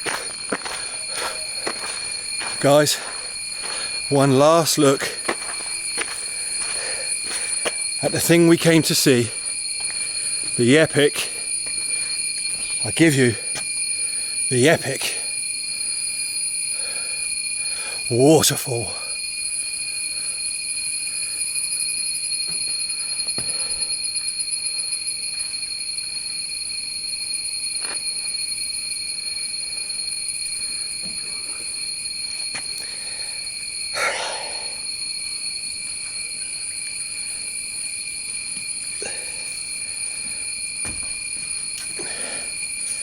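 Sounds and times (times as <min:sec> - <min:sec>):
insects chorus ringing: 0:00.0 - 0:43.0
loud insect call: 0:00.0 - 0:43.0.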